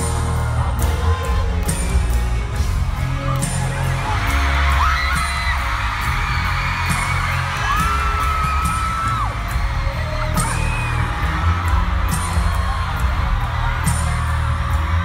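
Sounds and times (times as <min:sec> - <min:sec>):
crowd voices cheering high: 0:00.0 - 0:15.0
live pop-rock band: 0:00.0 - 0:15.0.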